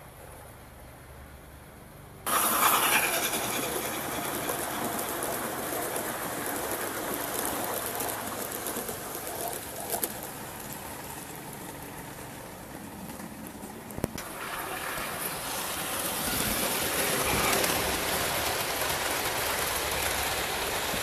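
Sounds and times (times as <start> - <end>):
model train wheels rattling on track: 2.3 - 21.0.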